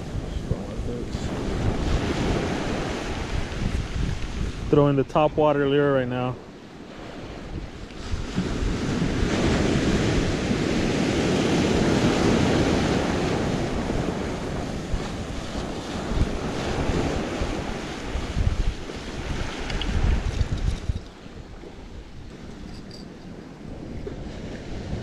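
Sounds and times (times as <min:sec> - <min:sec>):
surf breaking on beach: 0:00.0 - 0:20.7
wind buffeting microphone: 0:00.0 - 0:25.0.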